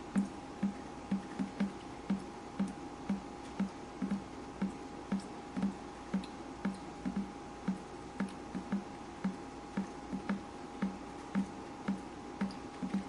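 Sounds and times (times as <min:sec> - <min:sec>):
water dripping: 0:00.1 - 0:13.0.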